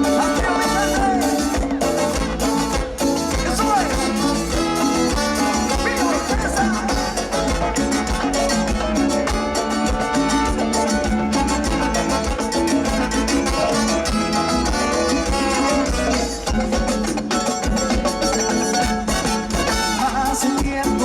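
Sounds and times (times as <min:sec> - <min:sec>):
latin dance band playing: 0:00.0 - 0:21.0
steady percussion: 0:00.0 - 0:21.0
strummed guitar: 0:00.0 - 0:21.0.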